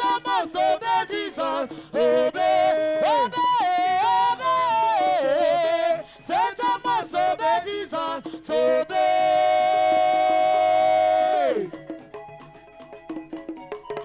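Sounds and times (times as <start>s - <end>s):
worship singing: 0.0s - 11.9s.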